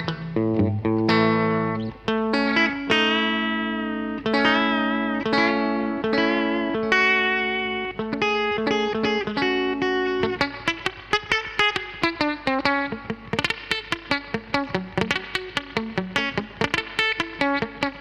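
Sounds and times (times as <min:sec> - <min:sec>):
electric guitar notes: 0:00.0 - 0:18.0.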